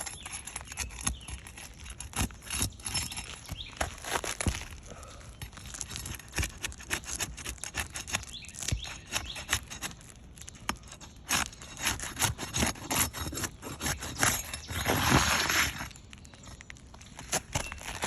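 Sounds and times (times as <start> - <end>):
shingles crackling and scraping: 0.0 - 18.0.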